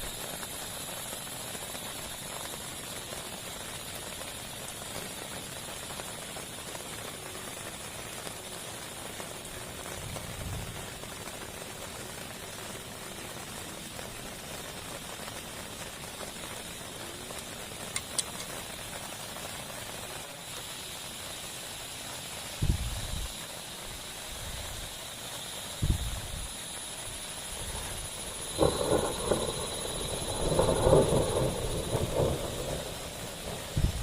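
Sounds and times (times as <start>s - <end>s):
heavy rain hissing: 0.0s - 34.0s.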